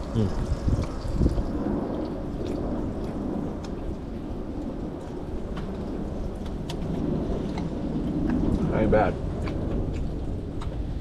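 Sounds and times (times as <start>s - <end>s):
steady rain: 0.0s - 11.0s
raindrop ticks: 0.7s - 11.0s.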